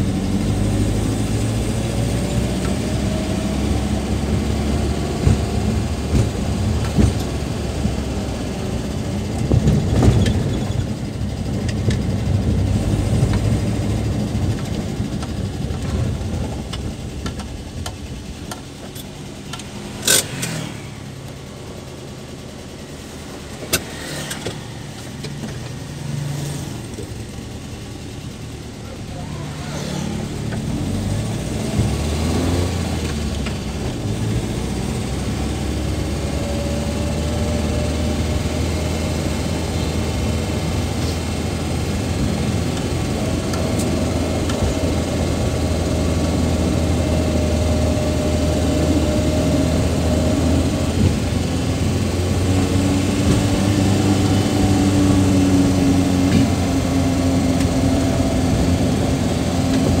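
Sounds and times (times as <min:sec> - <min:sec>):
engine whine rising and falling: 0:00.0 - 1:00.0
pickup engine running: 0:00.0 - 1:00.0.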